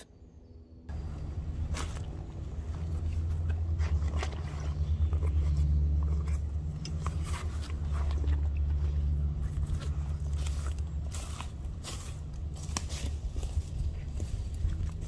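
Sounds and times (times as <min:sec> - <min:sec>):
low rumble: 0:00.3 - 0:15.0
feet crackling on dry leaves: 0:00.9 - 0:05.0, 0:05.6 - 0:15.0.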